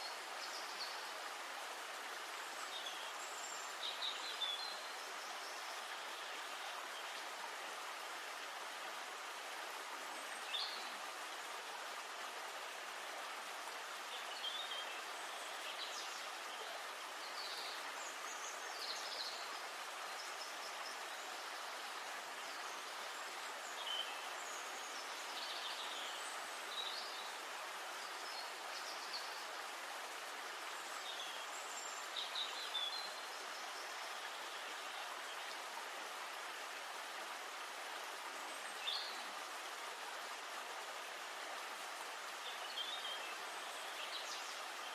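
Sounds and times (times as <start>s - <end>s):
flowing river water: 0.0s - 44.9s.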